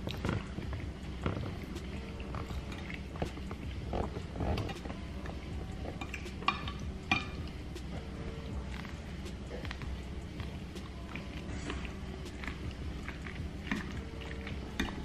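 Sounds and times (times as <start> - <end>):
chewing and mouth noises: 0.0 - 15.0
steady low hum: 0.0 - 15.0.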